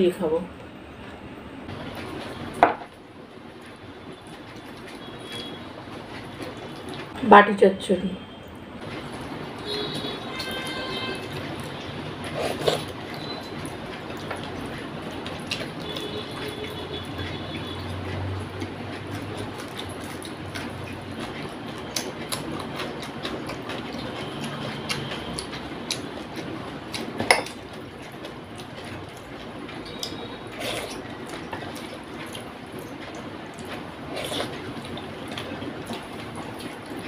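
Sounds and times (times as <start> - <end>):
wet squishing and chewing: 3.6 - 7.2, 8.8 - 37.0.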